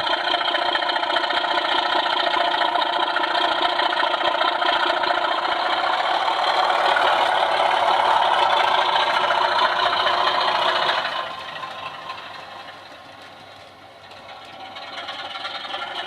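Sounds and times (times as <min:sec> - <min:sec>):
diesel engine sound from small speaker: 0:00.0 - 0:16.0
model train wheels rattling on track: 0:00.0 - 0:16.0.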